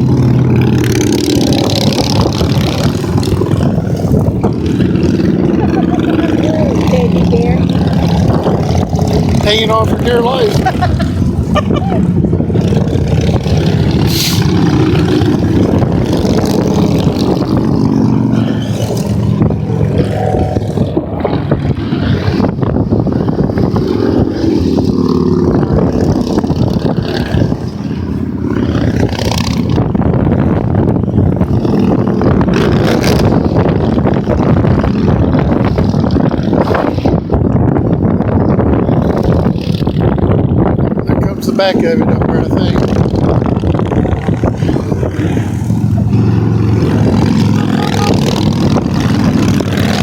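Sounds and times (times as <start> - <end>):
motorcycles riding past: 0.0 - 50.0.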